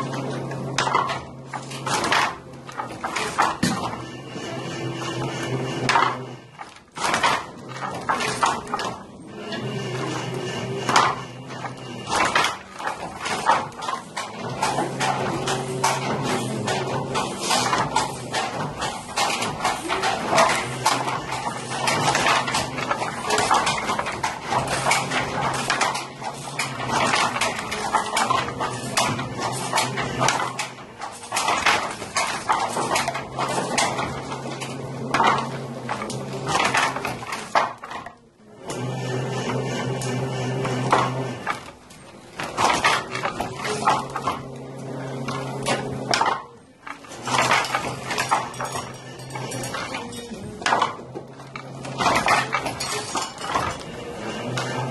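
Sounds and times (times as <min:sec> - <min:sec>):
wooden handloom clattering: 0:00.0 - 0:54.9.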